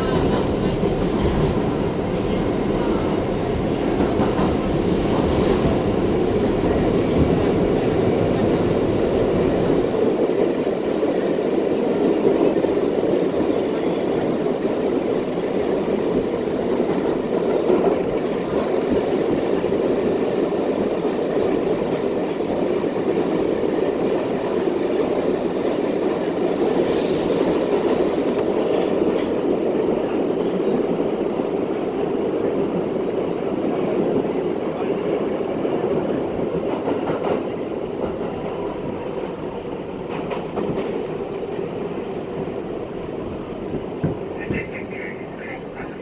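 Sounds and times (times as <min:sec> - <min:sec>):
subway train running: 0:00.0 - 0:46.0.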